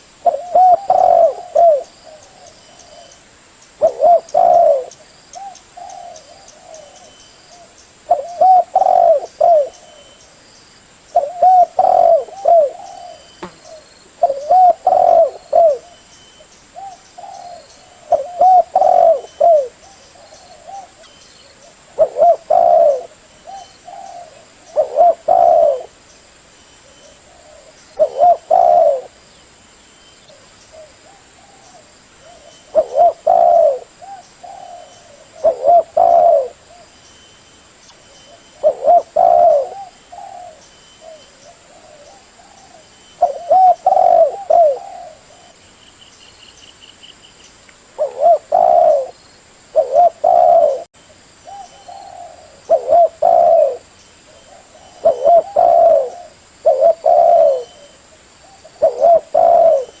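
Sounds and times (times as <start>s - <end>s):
dove cooing: 0.0s - 3.2s, 3.8s - 10.2s, 11.1s - 16.0s, 16.7s - 26.0s, 26.8s - 29.2s, 30.3s - 37.0s, 38.3s - 45.6s, 48.0s - 60.0s.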